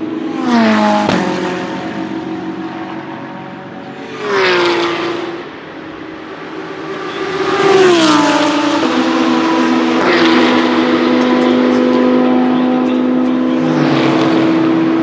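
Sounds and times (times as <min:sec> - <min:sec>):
racing cars passing at speed: 0:00.0 - 0:15.0.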